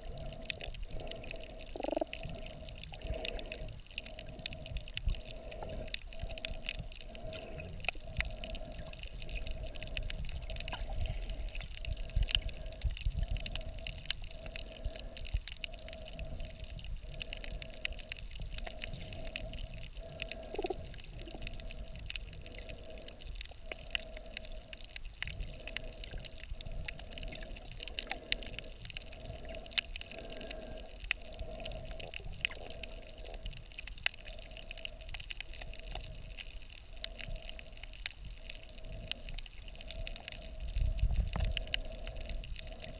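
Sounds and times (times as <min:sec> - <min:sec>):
sharp underwater clicks and crackles: 0:00.0 - 0:42.9
underwater rumble of moving water: 0:00.0 - 0:42.9.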